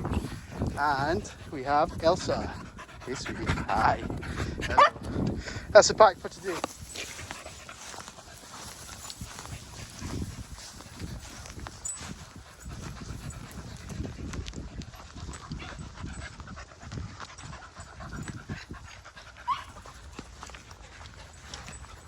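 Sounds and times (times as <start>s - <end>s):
small dogs panting: 0.0s - 22.0s.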